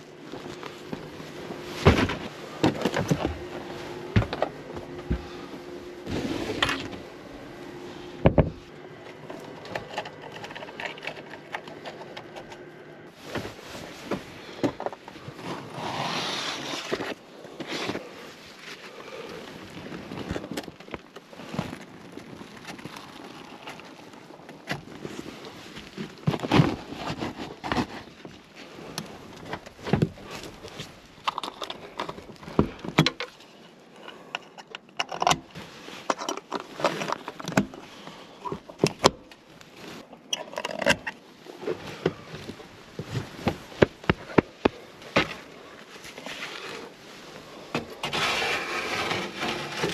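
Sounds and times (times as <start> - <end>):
camping gear clanking and rattling: 0.0 - 49.9.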